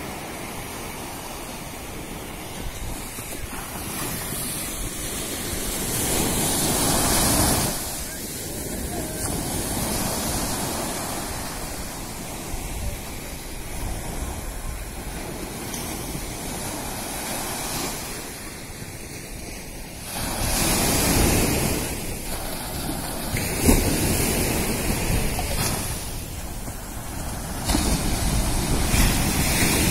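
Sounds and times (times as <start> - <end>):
small waves breaking on shore: 0.0 - 29.9.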